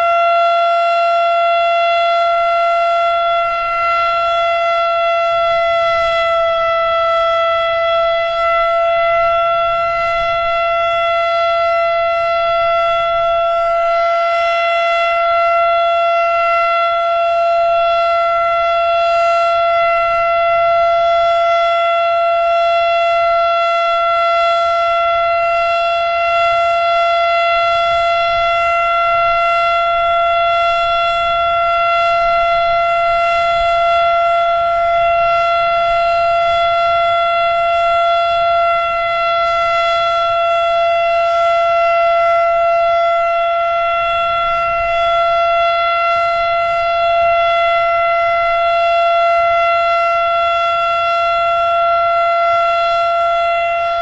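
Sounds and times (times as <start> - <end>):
warning siren steady tone: 0.0 - 54.0.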